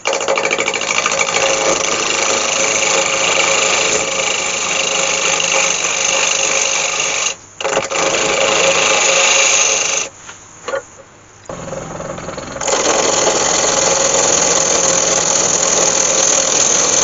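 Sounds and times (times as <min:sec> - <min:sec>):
gouge scraping spinning wood: 0:00.0 - 0:10.1, 0:11.5 - 0:17.0
lathe humming: 0:00.0 - 0:10.1, 0:11.5 - 0:17.0.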